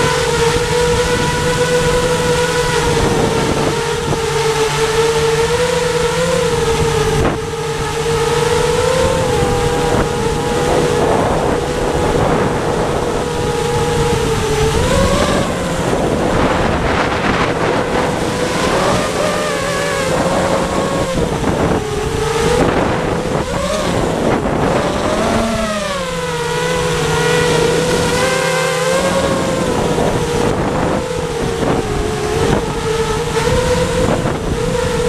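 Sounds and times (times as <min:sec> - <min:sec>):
electric motor and propeller whining: 0:00.0 - 0:35.0
wind rushing over microphone: 0:00.0 - 0:35.0.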